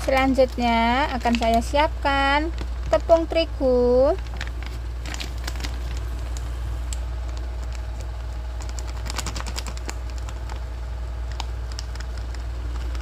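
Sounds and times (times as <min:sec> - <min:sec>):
low hum: 0:00.0 - 0:13.0
plastic bag crinkling: 0:00.0 - 0:13.0.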